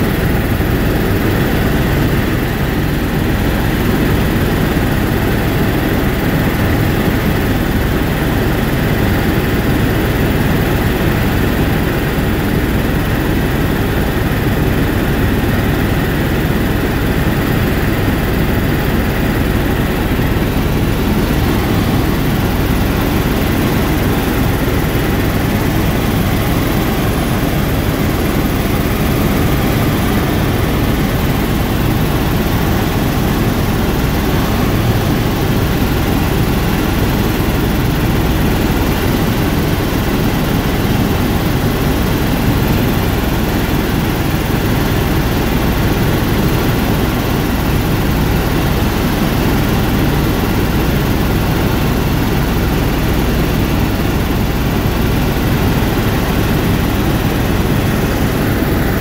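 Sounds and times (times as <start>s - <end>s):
helicopter rotor and engine drone: 0.0s - 59.0s.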